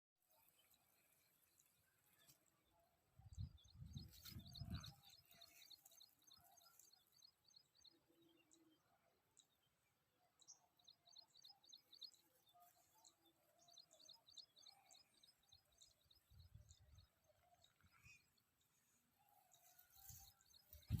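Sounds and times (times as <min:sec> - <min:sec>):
faint birds chirping: 0:00.2 - 0:21.0.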